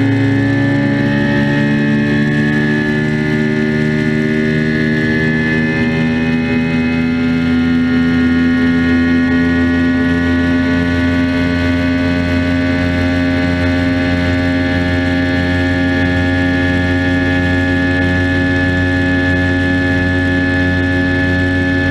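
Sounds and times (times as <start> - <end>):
outboard motor running: 0.0 - 21.9.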